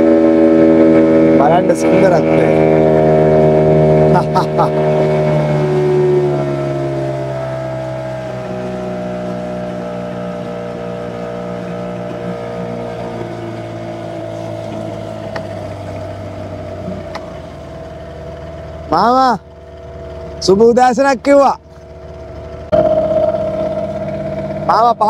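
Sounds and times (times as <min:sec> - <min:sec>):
small boat engine: 0:00.0 - 0:25.0.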